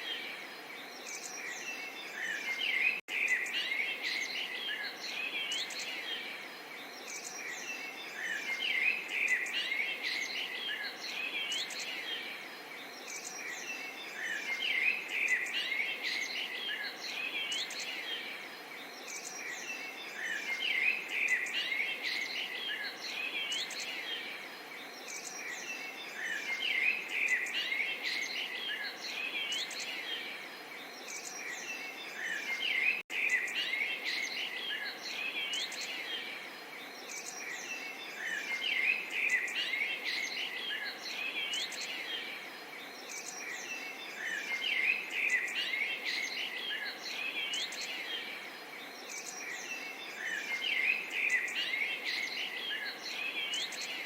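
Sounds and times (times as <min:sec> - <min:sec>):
faint steady hiss: 0:00.0 - 0:54.0
songbirds chirping and twittering: 0:00.0 - 0:54.0.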